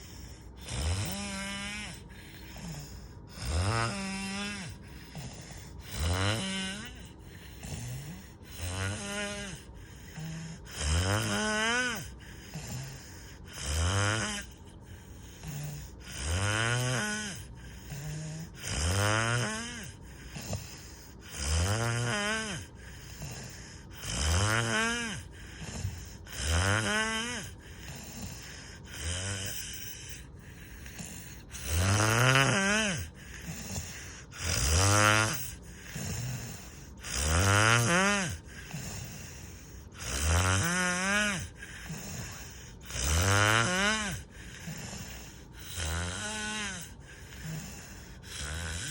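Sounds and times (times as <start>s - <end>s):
loud snoring: 0.0s - 48.9s.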